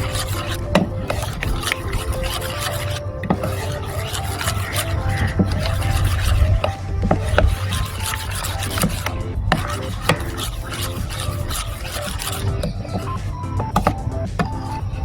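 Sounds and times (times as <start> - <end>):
utensil scraping a bowl: 0.0 - 15.0.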